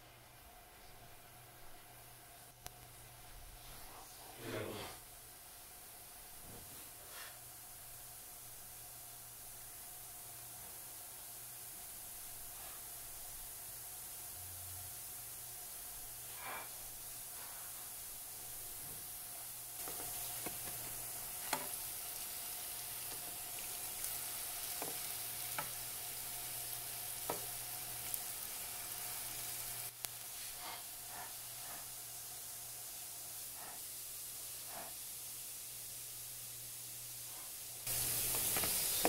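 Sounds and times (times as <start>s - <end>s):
dough sizzling in hot oil: 5.0s - 39.0s.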